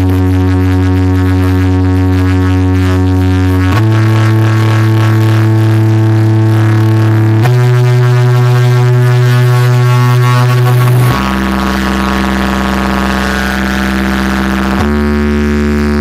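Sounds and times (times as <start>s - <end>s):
deep synth tone over loudspeakers: 0.0s - 16.0s.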